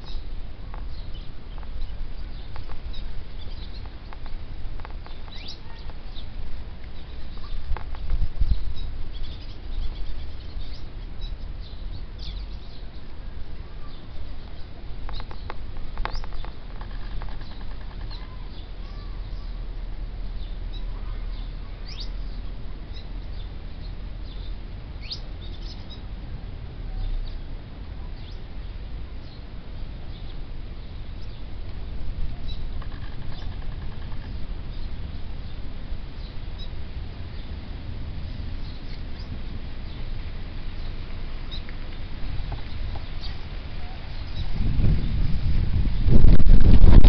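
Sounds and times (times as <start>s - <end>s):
birds chirping: 0.0s - 26.2s, 26.9s - 31.6s, 32.2s - 37.6s, 38.2s - 46.9s
steady low rumble: 0.0s - 47.0s.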